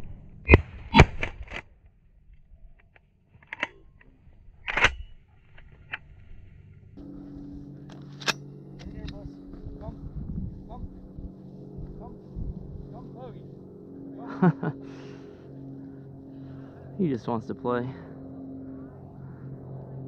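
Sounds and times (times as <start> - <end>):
low steady hum: 1.7 - 20.0.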